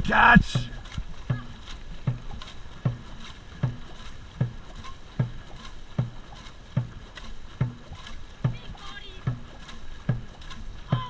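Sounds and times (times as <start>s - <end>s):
paddle stroke thumps: 0.0s - 11.0s
steady water noise: 0.0s - 11.0s
water splashes: 0.0s - 11.0s.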